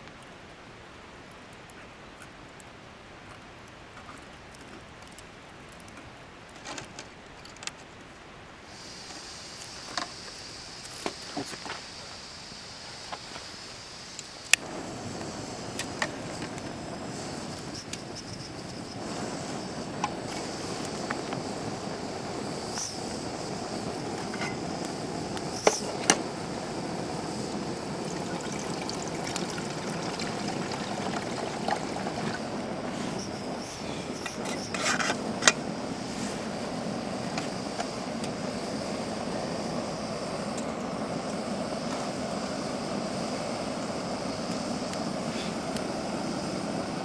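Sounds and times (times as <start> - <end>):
fire crackles: 0.1 - 47.0
wood fire rushing: 8.9 - 47.0.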